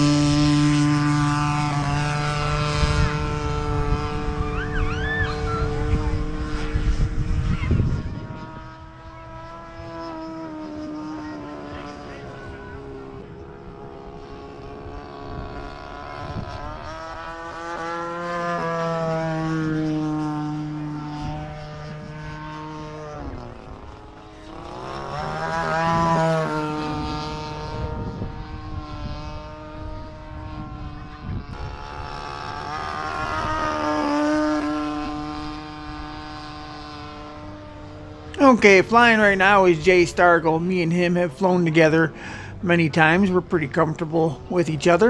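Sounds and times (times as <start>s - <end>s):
model airplane motor flying past: 0.0s - 45.0s.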